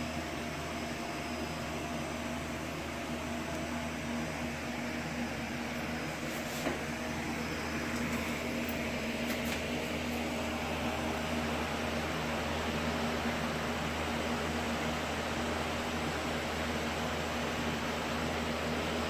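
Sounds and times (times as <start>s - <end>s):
laser engraver whirring hum: 0.0s - 19.0s.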